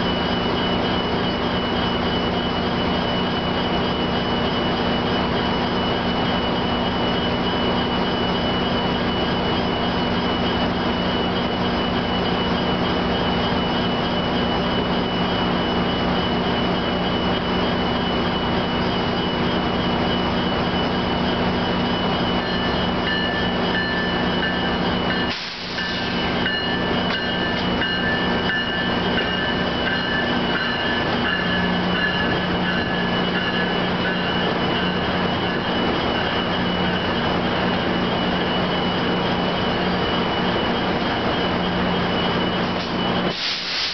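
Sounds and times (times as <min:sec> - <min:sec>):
train droning: 0:00.0 - 0:43.9
train wheels squealing: 0:00.0 - 0:43.9.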